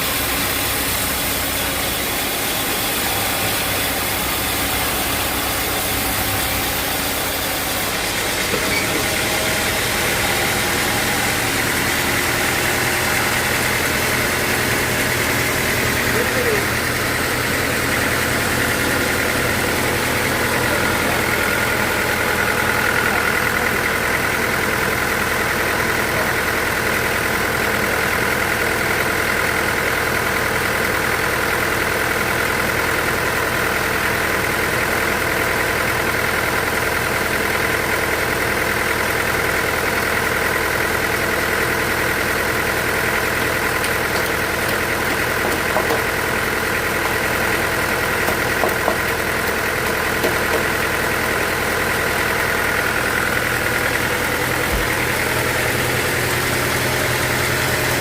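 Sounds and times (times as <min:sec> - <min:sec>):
band saw machine drone: 0:00.0 - 0:28.2, 0:39.2 - 0:58.0.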